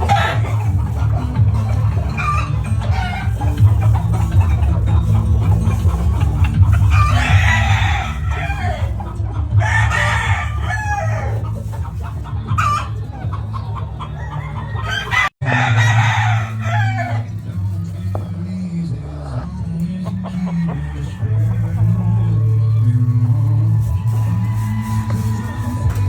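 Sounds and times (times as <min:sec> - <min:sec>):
background music with bass: 0:00.0 - 0:26.0
chickens clucking: 0:00.0 - 0:26.0
roosters crowing: 0:00.0 - 0:26.0.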